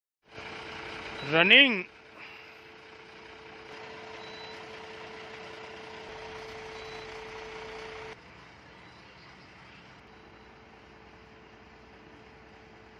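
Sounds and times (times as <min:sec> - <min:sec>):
truck diesel engine idling: 0:00.2 - 0:12.9.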